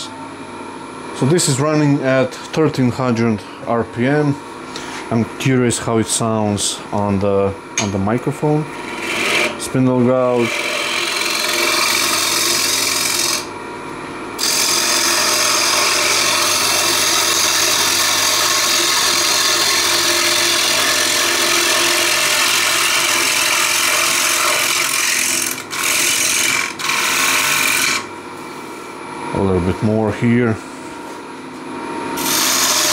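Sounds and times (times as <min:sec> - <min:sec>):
faint lathe hum: 0:00.0 - 0:32.9.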